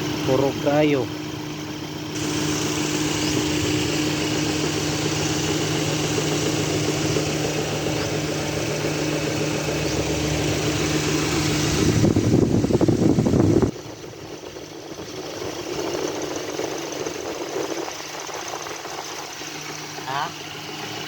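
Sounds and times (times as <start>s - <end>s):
deep low hum: 0.0s - 20.4s
car engine idling with misfire: 0.0s - 21.0s.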